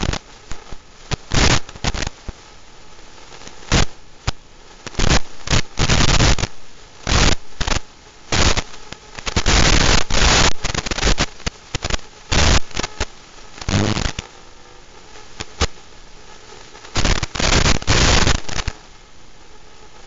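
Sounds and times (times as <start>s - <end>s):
static hiss bursts: 0.0s - 20.0s.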